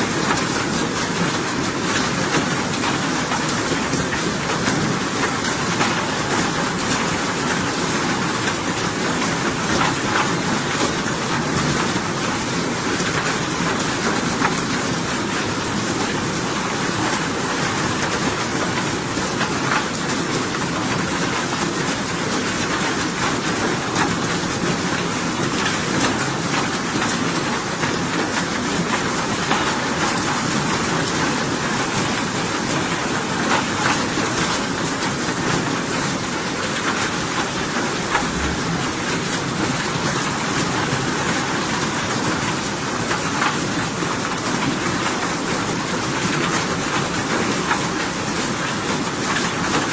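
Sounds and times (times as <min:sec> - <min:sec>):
faint raindrops: 0:00.0 - 0:49.9
steady rain hiss: 0:00.0 - 0:49.9.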